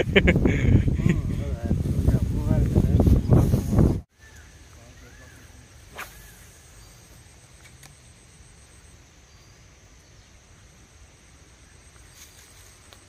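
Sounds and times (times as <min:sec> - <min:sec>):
high-pitched insect chorus: 0:02.4 - 0:13.0.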